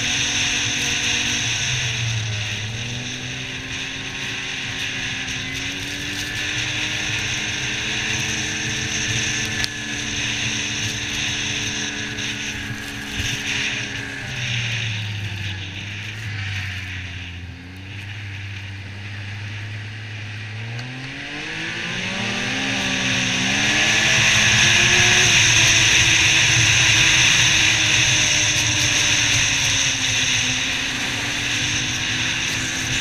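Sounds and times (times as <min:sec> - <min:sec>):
snowmobile engine running: 0:00.0 - 0:33.0
wind hiss and track noise: 0:00.0 - 0:33.0.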